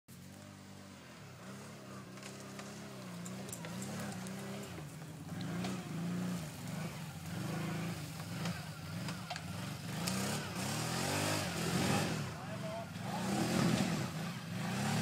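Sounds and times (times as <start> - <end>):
quad bike engine revving: 0.2 - 15.0.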